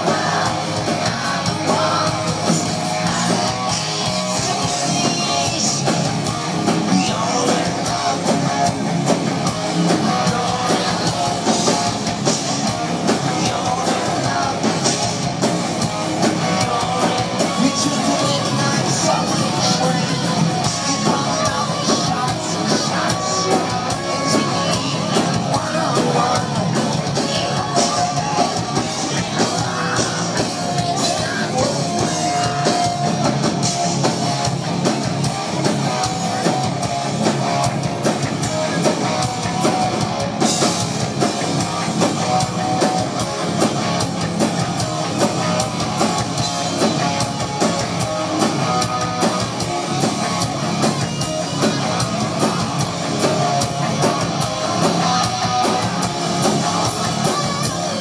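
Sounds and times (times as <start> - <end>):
drum kit: 0.0 - 58.0
electric guitar: 0.0 - 58.0.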